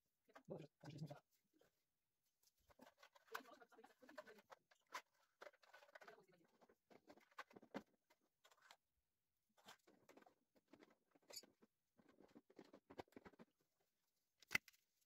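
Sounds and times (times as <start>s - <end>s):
hands handling plastic model: 2.3s - 15.0s.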